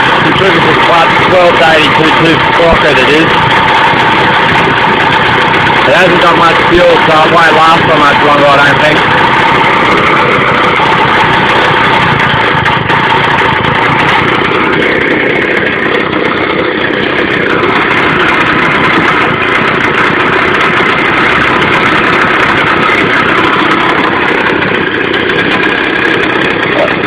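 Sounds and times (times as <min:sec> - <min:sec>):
two-stroke engine fast idle: 0:00.0 - 0:27.0.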